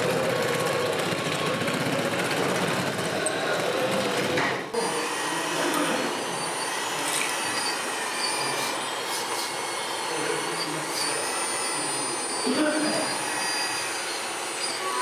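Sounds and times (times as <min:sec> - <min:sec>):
model trucks whirring: 0:00.0 - 0:04.7, 0:05.3 - 0:15.0.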